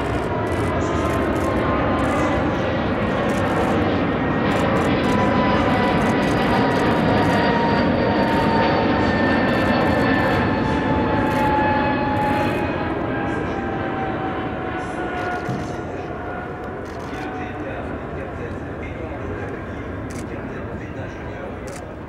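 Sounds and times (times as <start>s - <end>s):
airliner flying overhead: 0.0s - 22.0s.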